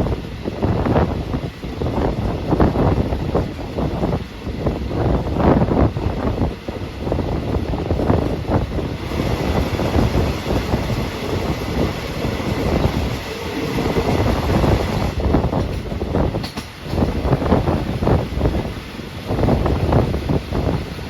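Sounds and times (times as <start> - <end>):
rushing air: 0.0 - 21.0
train wheels rumbling on rails: 0.0 - 21.0.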